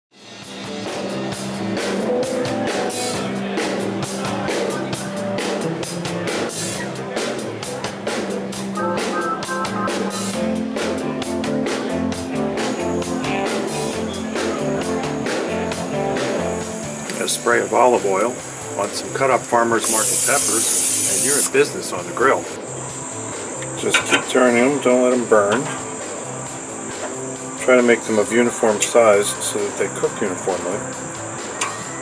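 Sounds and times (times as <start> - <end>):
drum-kit beat: 0.2 - 28.6
guitar: 0.2 - 32.0.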